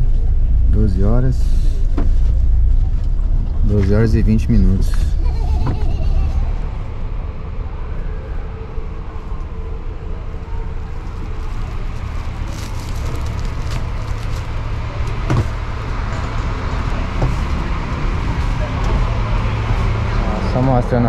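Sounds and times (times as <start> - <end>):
bus engine idling: 0.0 - 21.0.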